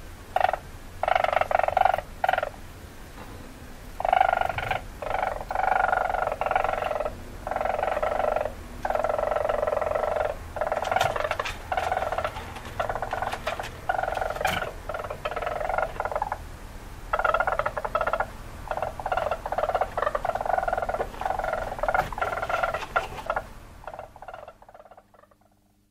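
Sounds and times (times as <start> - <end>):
weasel trilling: 0.4 - 2.6, 4.0 - 16.4, 17.1 - 25.6.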